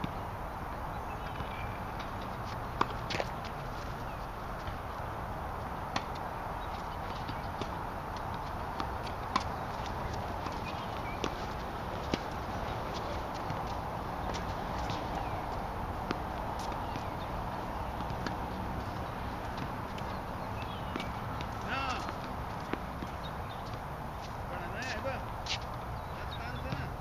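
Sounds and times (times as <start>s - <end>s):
steady background noise: 0.0s - 27.0s
balls bouncing on hard court: 1.2s - 4.9s, 5.6s - 25.8s, 26.4s - 27.0s
tennis balls struck by rackets: 1.2s - 4.9s, 5.6s - 27.0s.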